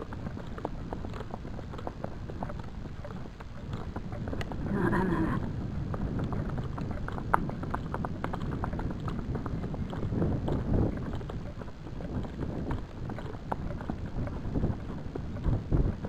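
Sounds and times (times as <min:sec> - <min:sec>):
horse hooves on dirt track: 0:00.0 - 0:16.0.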